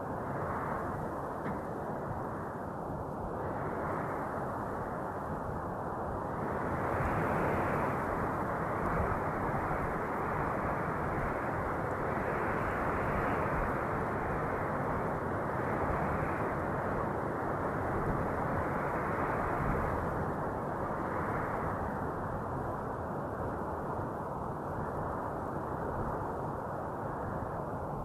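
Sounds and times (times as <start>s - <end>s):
steady wind blowing: 0.0s - 28.0s.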